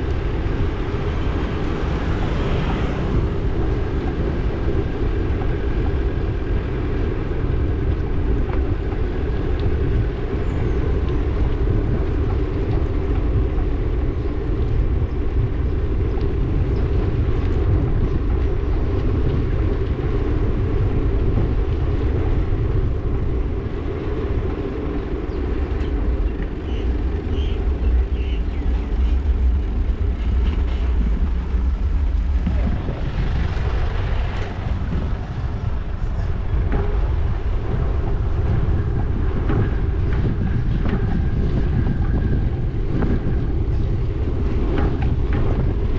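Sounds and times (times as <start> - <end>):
bike riding on road rumble: 0.0 - 45.9
wind noise: 0.0 - 45.9.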